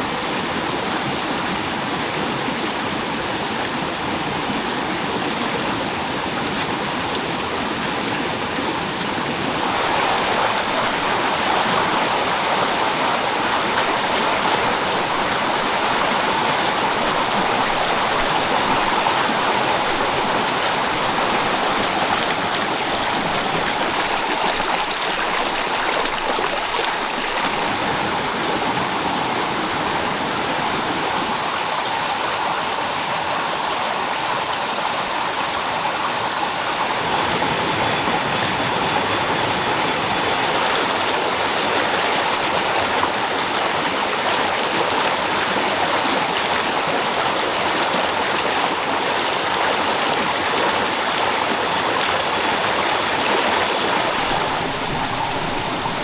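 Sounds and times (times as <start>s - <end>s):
stream splashing over stones: 0.2s - 36.9s, 40.2s - 56.0s.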